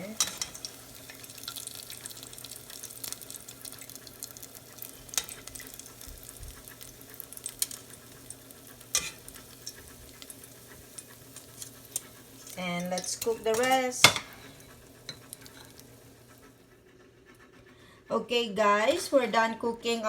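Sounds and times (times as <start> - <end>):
food sizzling in hot oil: 0.0 - 16.6.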